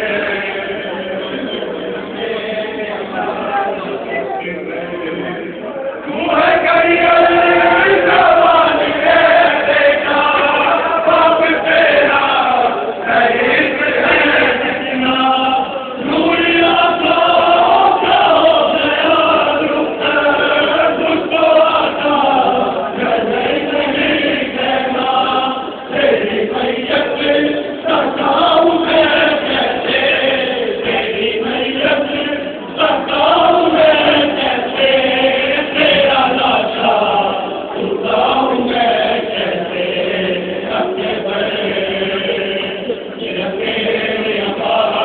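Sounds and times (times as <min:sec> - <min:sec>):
crowd of men chanting: 0:05.0 - 0:45.0.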